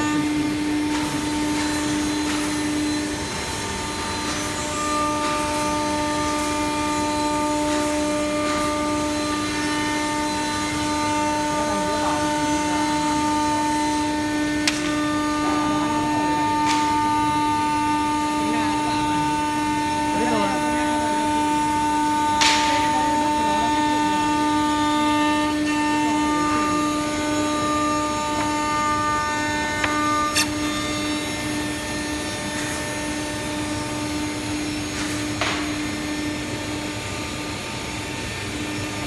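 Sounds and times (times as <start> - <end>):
machine spindle whine: 0.0 - 39.0.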